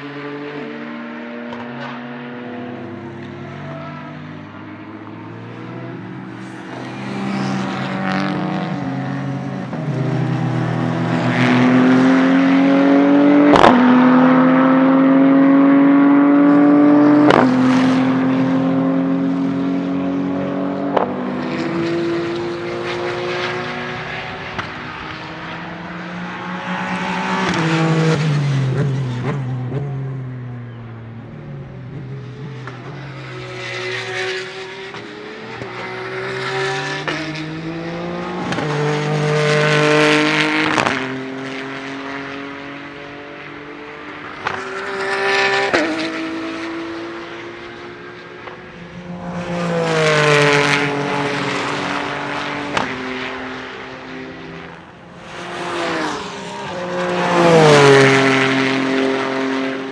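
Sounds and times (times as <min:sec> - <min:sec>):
race car passing at high revs: 0:00.0 - 0:59.9.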